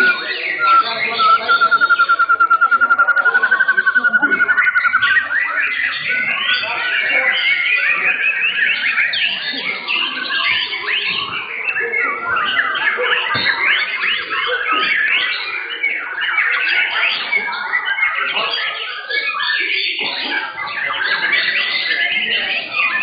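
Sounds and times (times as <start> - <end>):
bird song whistles and chatter: 0.0 - 23.0.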